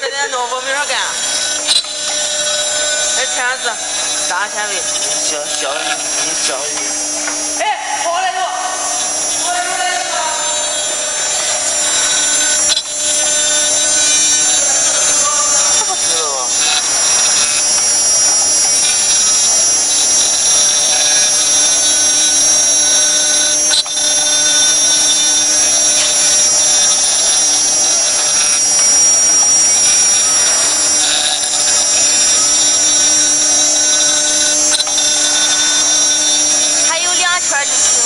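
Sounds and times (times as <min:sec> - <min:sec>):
bit cutting wood: 0:00.0 - 0:38.0
router spindle high whine: 0:00.0 - 0:38.0.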